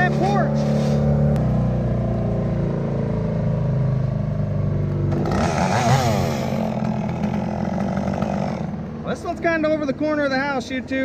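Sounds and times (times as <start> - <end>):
higher engine revving: 0.0 - 10.4
engine running steadily: 0.0 - 11.0.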